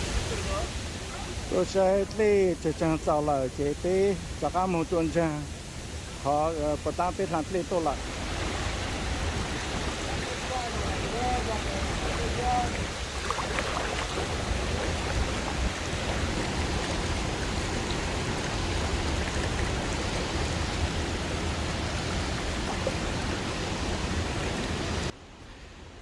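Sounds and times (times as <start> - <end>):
waterfall roaring: 0.0 - 25.2.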